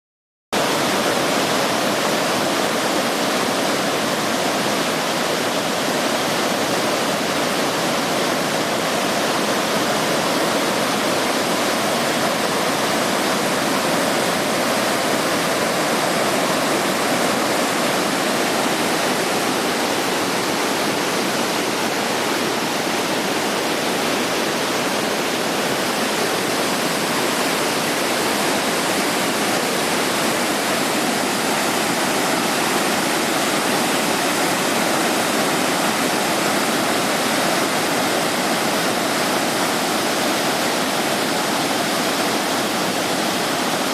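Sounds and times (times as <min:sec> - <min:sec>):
waterfall roaring: 0:00.6 - 0:43.9.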